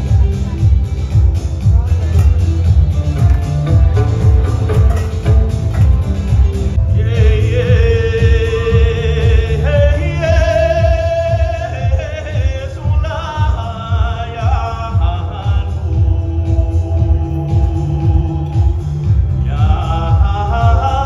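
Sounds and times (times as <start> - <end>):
pulsing bass beat: 0.0 - 21.0.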